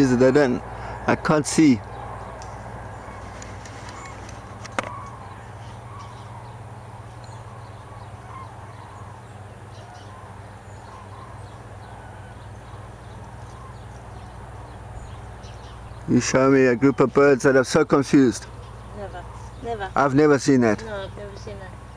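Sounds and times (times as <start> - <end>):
cranes calling: 0.0 - 21.9.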